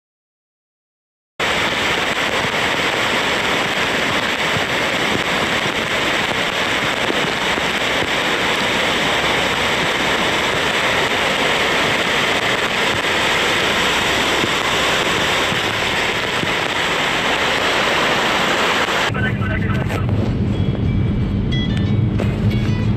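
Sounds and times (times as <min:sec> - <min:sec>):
heavy rain and floodwater rushing: 0:01.4 - 0:20.1.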